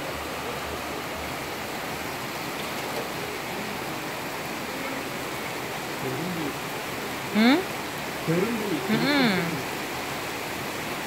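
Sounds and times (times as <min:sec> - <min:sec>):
heavy rain on leaves and paving: 0:00.0 - 0:11.0.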